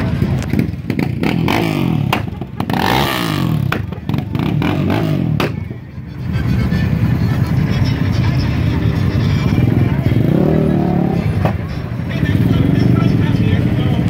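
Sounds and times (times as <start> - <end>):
vehicle engine revving: 0.0 - 5.7, 7.0 - 14.0.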